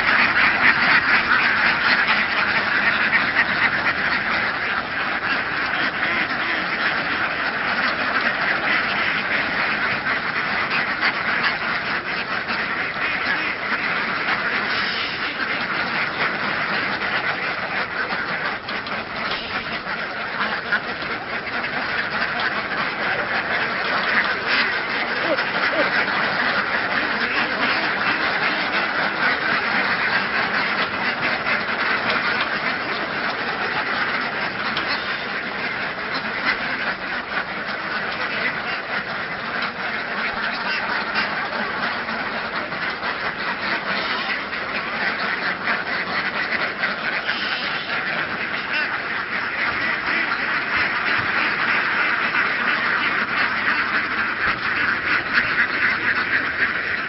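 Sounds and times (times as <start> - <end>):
ducks quacking: 0.0 - 57.0.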